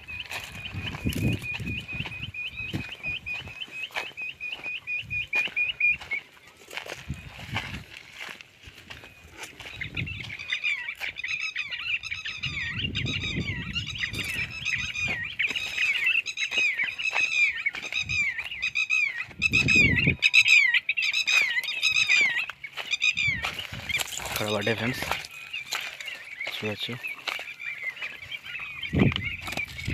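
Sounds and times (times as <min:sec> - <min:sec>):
footsteps through dry grass: 0:00.0 - 0:29.9
quail calling: 0:00.0 - 0:29.9.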